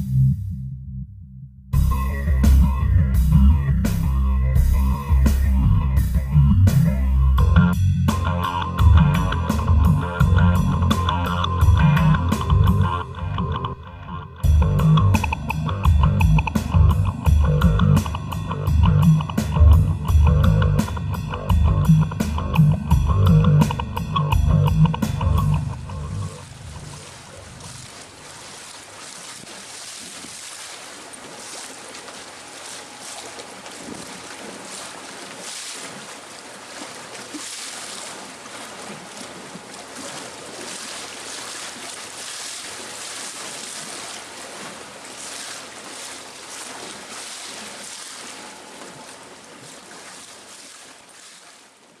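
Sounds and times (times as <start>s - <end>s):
water lapping against boat hull: 2.3s - 52.0s.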